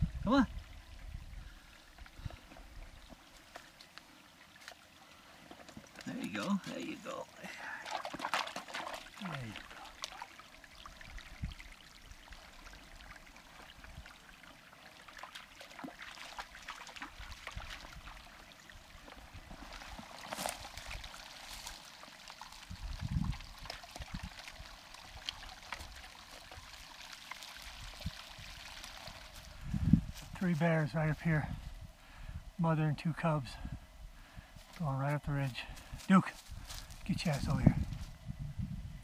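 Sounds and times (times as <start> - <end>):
creek trickling over rocks: 0.0 - 38.2.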